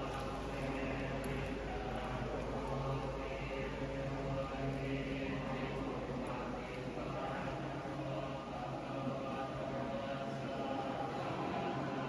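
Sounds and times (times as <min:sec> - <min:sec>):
voices chanting in unison: 0:00.0 - 0:12.0.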